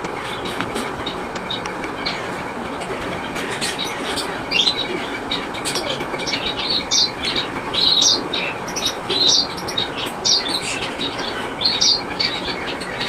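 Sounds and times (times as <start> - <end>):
finch chicks chirping: 0.0 - 13.0
steady background noise: 0.0 - 13.0.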